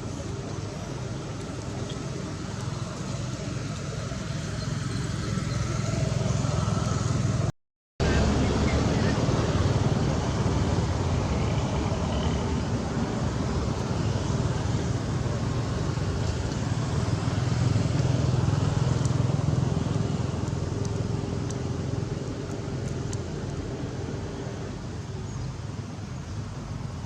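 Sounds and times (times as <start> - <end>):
motor traffic rumble: 0.0 - 27.0.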